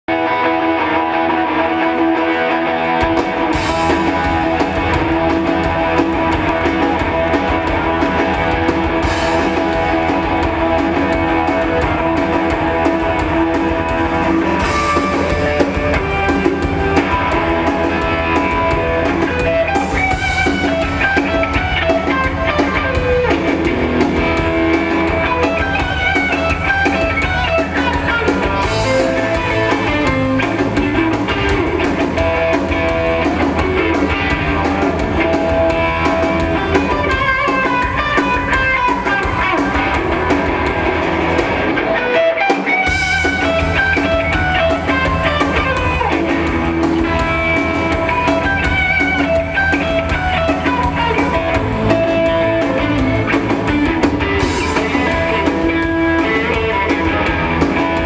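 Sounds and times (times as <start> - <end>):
electric guitar: 0.0 - 58.0
live blues-rock band: 0.1 - 58.0
deep bass and drums: 3.0 - 42.0, 42.9 - 58.0.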